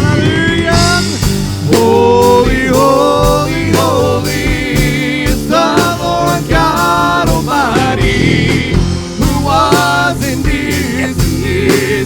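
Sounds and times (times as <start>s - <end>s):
bass line: 0.0s - 12.0s
drum hits: 0.0s - 12.0s
worship band playing: 0.0s - 12.0s.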